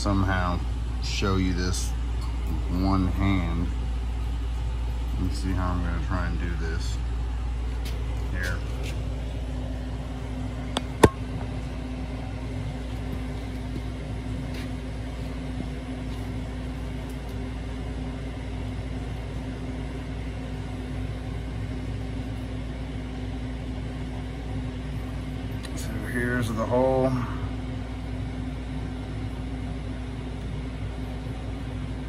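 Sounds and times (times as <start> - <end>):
shop machinery humming: 0.0 - 32.0.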